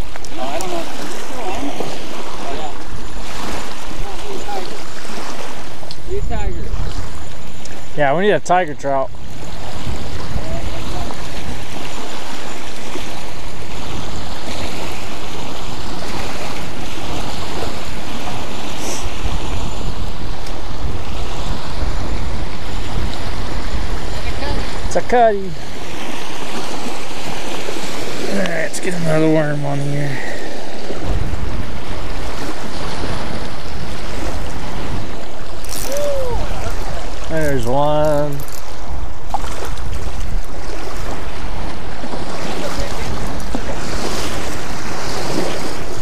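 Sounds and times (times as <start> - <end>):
waves lapping on rocky shore: 0.0 - 46.0
wind gusting on microphone: 0.0 - 46.0.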